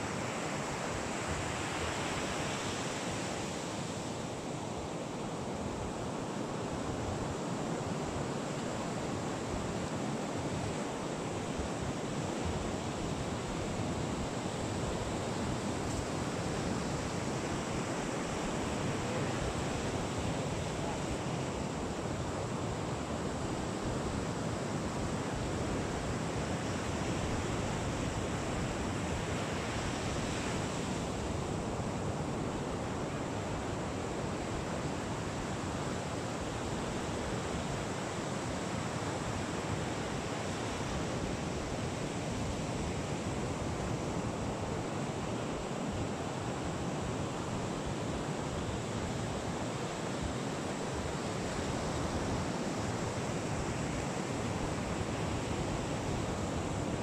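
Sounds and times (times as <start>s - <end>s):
sea surf washing: 0.0s - 57.0s.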